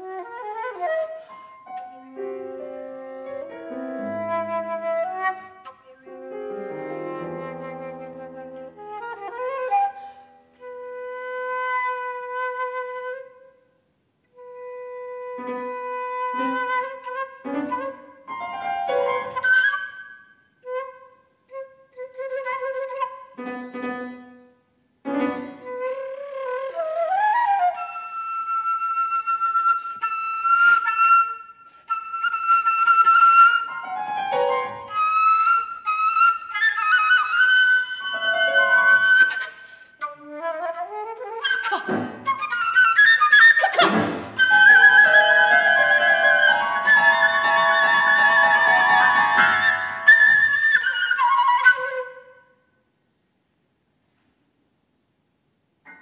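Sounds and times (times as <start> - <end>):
concert flute playing: 0.0 - 13.7, 14.3 - 52.7.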